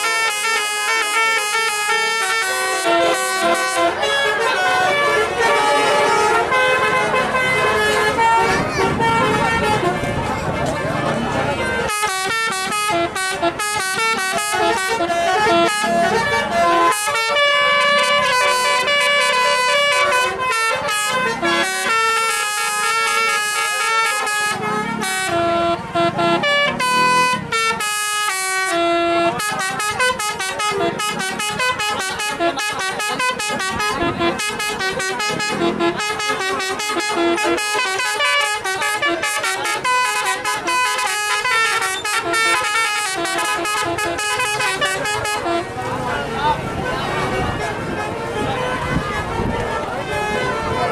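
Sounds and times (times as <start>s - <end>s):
bus horns playing melodies: 0.0s - 50.9s.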